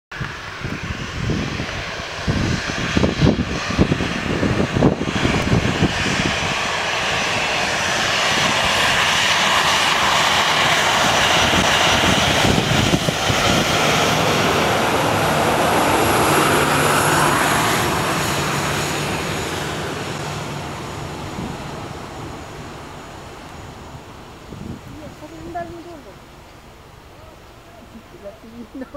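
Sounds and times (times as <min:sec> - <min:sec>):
jet engines at take-off thrust: 0:00.1 - 0:28.9
wind gusts on microphone: 0:00.1 - 0:28.9.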